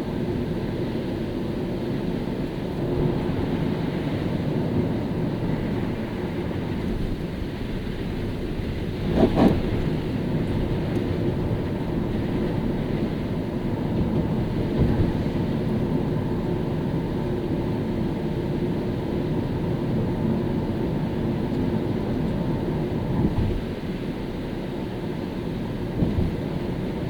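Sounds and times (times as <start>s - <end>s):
car tyres on wet road: 0.0s - 27.0s.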